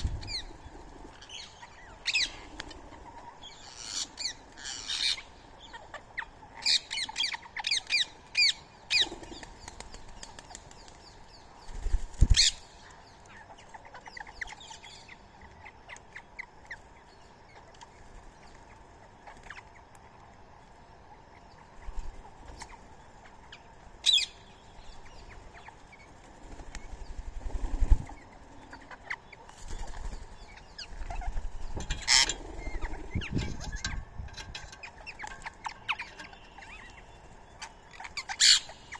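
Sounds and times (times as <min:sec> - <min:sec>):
wingbeats fluttering: 0:00.0 - 0:05.2, 0:06.0 - 0:14.8, 0:21.4 - 0:38.9.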